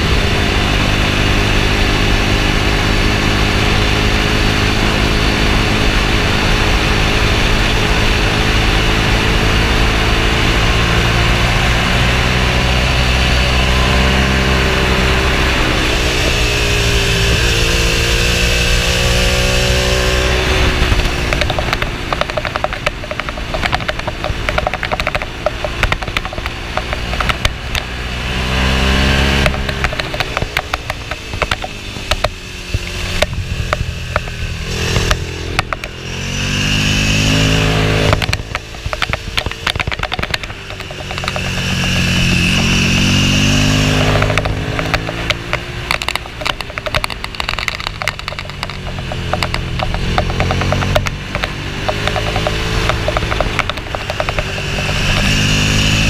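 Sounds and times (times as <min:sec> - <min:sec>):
engine crackling on overrun: 0:00.0 - 0:56.0
motorcycle engine revving: 0:00.0 - 0:56.0.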